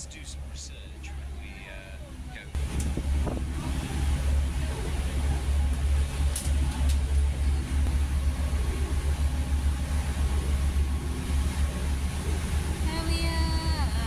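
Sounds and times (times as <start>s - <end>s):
diesel engine drone: 0.0s - 14.0s
water splashing: 0.0s - 14.0s
wind: 0.0s - 14.0s.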